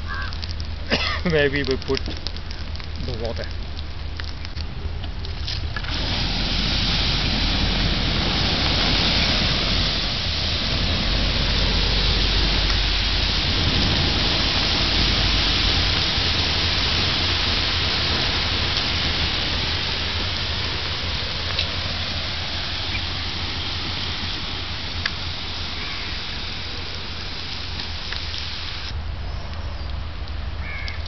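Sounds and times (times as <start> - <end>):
fire crackling: 0.0 - 31.0
water hissing on embers: 0.0 - 31.0.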